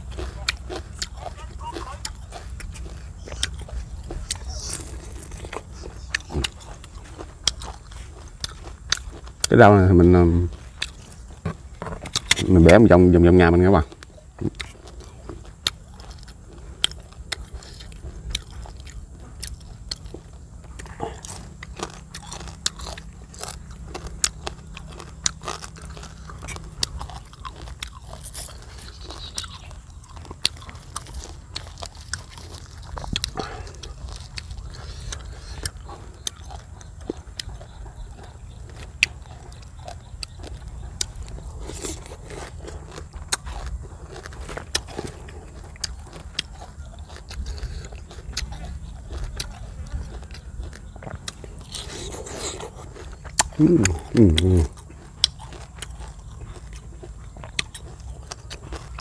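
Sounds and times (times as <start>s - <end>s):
crunchy chewing: 0.0s - 59.0s
low steady hum: 0.0s - 59.0s.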